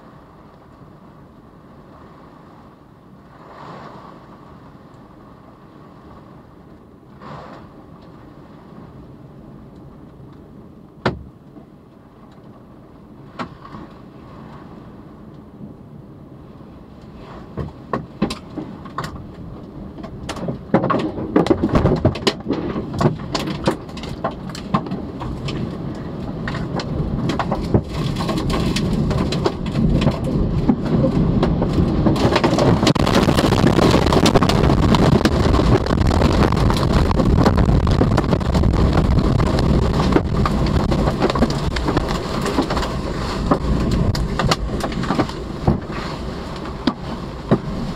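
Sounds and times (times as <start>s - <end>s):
wind and rain battering a car: 0.0s - 47.9s.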